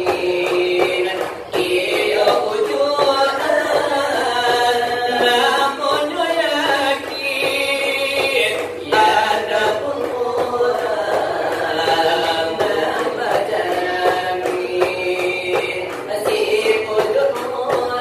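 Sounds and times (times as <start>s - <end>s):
voices chanting together: 0.0s - 18.0s.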